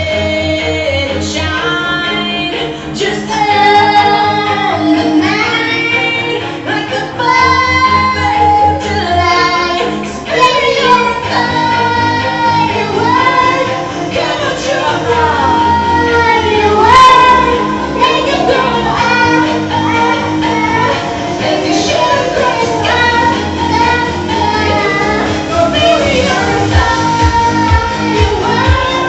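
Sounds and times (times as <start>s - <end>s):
backing track: 0.0s - 29.0s
girl singing a pop song: 0.0s - 29.0s.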